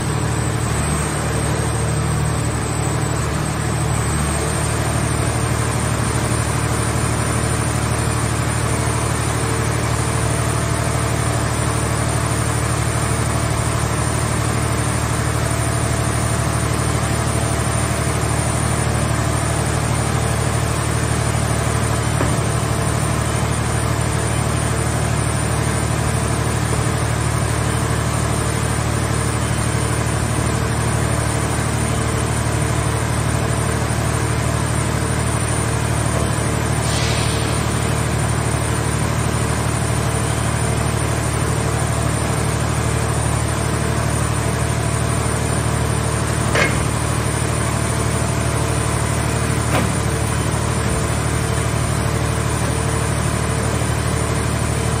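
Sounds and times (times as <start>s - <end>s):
hydraulic power unit humming: 0.0s - 55.0s.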